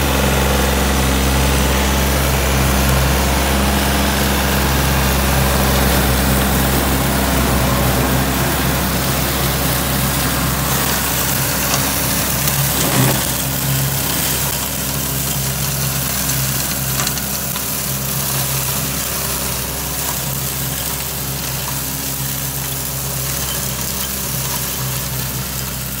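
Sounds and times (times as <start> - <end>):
flail mower rushing: 0.0 - 26.0
tractor diesel engine under load: 0.0 - 26.0.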